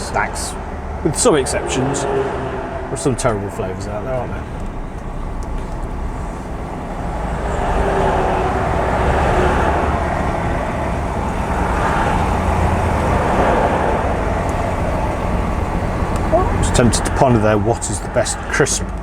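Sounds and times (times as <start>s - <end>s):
lorry engine drone: 0.0s - 19.0s
tyre and road noise: 0.0s - 19.0s.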